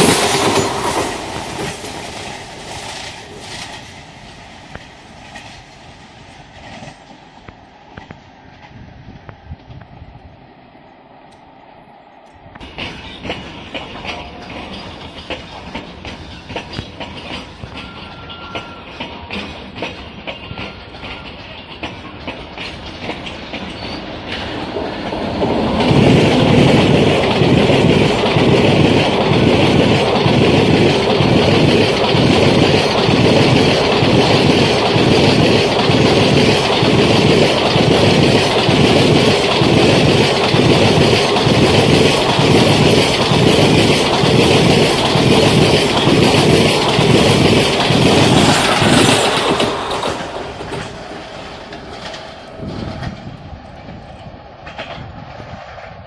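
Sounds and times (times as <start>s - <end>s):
train wheels clickety-clack: 0.0s - 10.1s, 11.3s - 56.0s
train rushing hiss: 0.0s - 18.0s, 22.4s - 55.6s.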